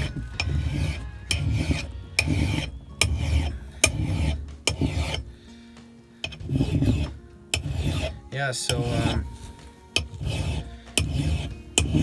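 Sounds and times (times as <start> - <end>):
file rasping on axe blade: 0.0 - 5.4, 6.2 - 12.0.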